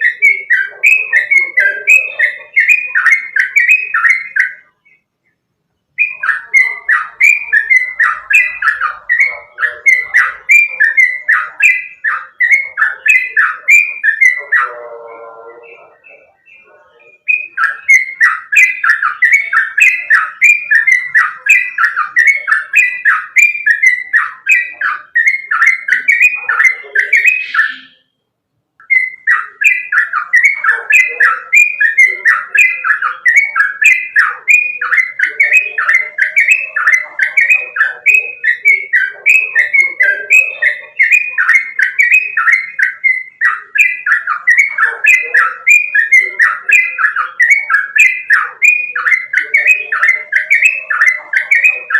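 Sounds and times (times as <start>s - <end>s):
bulbul singing whistled notes: 0.0s - 51.9s.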